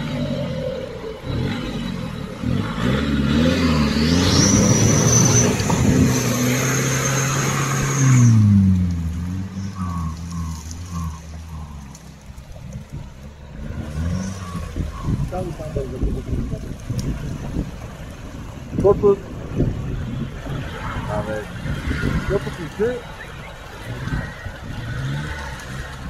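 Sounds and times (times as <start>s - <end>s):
car engine revving hard: 0.0s - 11.9s, 12.9s - 18.1s, 18.7s - 26.0s
wheels spinning in mud: 0.0s - 26.0s.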